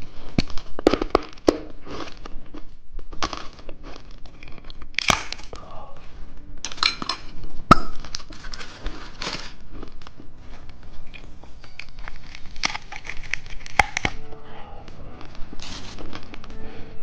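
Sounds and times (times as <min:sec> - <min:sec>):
plastic wrapper crinkling and tearing: 0:00.0 - 0:05.6, 0:06.7 - 0:14.2, 0:15.2 - 0:16.6.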